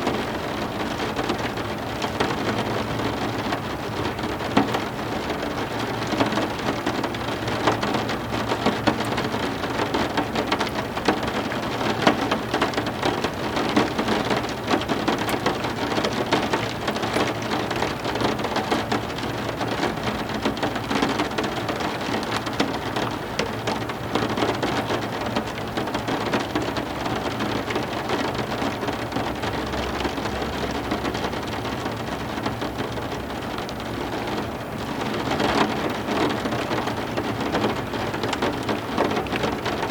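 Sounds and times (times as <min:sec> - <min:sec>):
heavy rain falling: 0:00.0 - 0:39.9
raindrops pattering on surfaces: 0:00.0 - 0:39.9.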